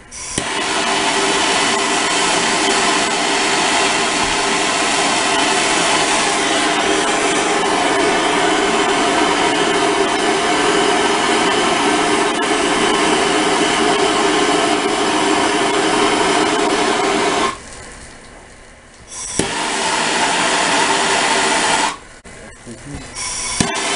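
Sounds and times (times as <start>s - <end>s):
gas torch hissing: 0.0s - 18.2s, 19.0s - 22.2s, 23.0s - 23.9s.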